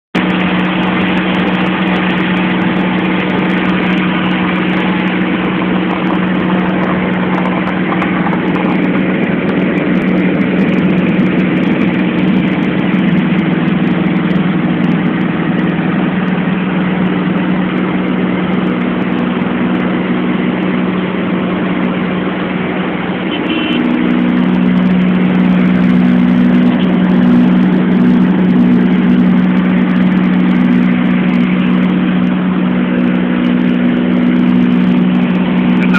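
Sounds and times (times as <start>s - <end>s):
aircraft engine and propeller droning: 0.2s - 35.9s.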